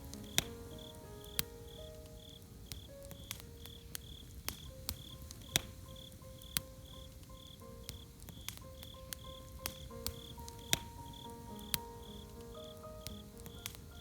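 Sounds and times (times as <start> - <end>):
campfire crackling: 0.0 - 14.0
cricket chirping: 0.0 - 14.0.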